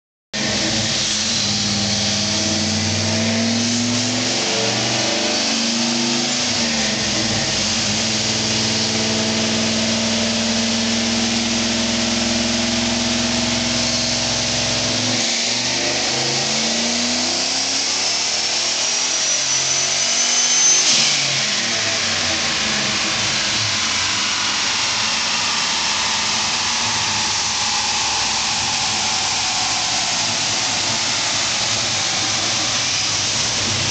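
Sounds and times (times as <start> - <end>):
car engine revving on dyno: 0.4 - 33.9
high turbo whine: 0.4 - 33.9.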